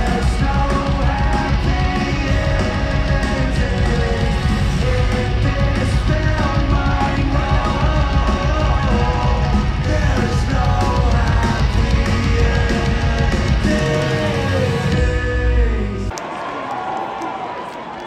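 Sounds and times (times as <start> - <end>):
driving bass: 0.0 - 16.1
live rock band playing: 0.0 - 16.1.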